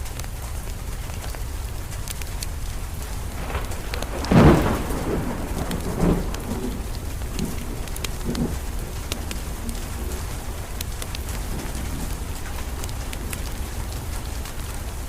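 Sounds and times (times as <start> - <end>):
steady rain: 0.0 - 15.0
wood fire crackling: 0.0 - 15.0
thunder rumbling: 2.6 - 15.0.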